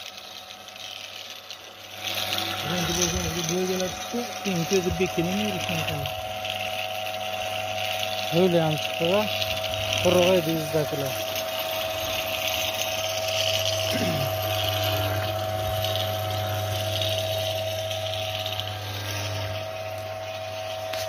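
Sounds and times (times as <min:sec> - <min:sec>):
electric motor hum and whine: 0:00.0 - 0:21.0.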